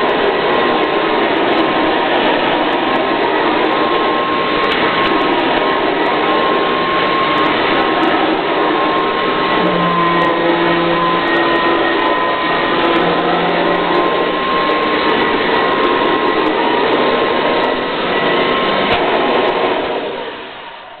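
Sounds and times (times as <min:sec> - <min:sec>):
low hum: 0:00.0 - 0:21.0
vacuum cleaner running: 0:00.0 - 0:21.0.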